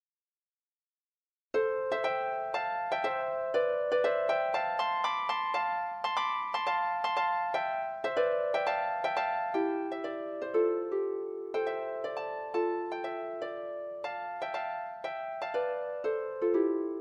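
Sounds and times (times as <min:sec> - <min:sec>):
solo string instrument melody: 0:01.6 - 0:17.0.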